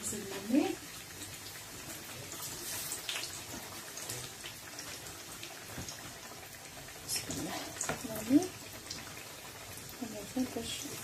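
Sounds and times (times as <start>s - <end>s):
dough frying in hot oil: 0.0s - 11.0s.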